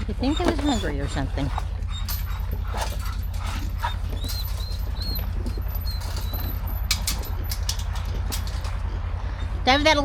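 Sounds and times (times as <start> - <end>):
pigs crunching feed: 0.0 - 9.1
steady low rumble: 0.0 - 10.0.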